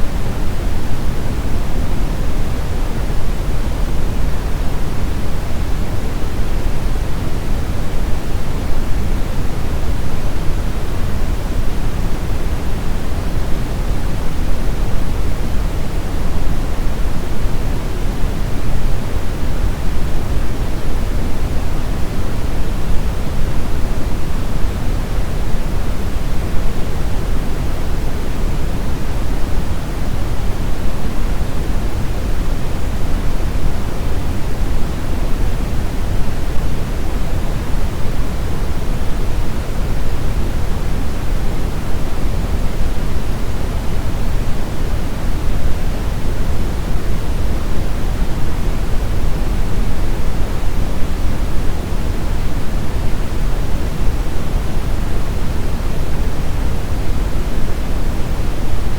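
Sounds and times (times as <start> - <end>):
brown noise hiss: 0.0 - 58.9.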